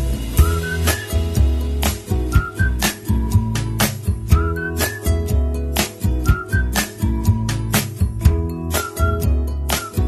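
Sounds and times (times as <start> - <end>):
background music with beat and bass: 0.0 - 10.0
whistled tune: 0.4 - 10.0.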